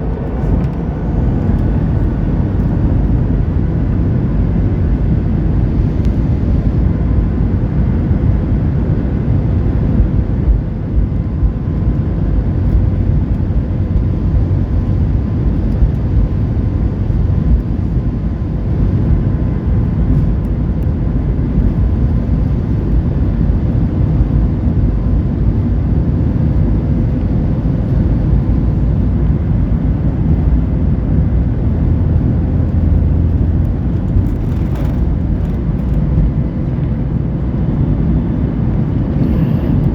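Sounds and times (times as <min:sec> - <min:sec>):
jet engines and rushing air: 0:00.0 - 0:39.9.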